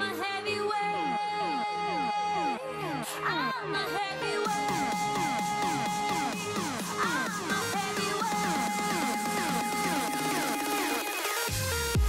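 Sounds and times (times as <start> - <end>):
electronic music with synth glides: 0.0 - 12.0.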